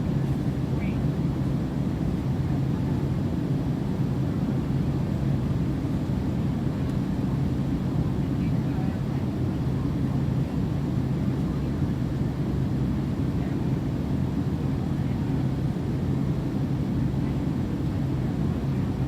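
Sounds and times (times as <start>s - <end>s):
airliner cabin rumble: 0.0s - 19.0s
constant low hum: 0.0s - 19.0s.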